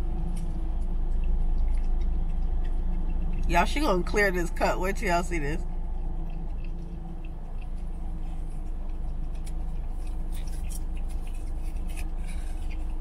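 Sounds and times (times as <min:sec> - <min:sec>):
low hum inside car: 0:00.0 - 0:13.0.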